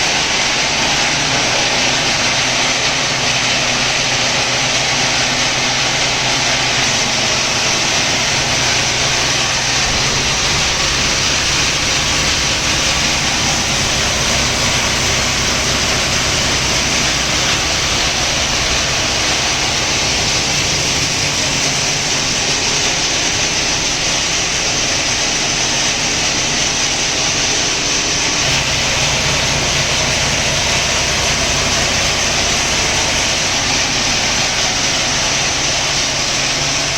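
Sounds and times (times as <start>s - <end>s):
grinder running: 0.0s - 36.9s.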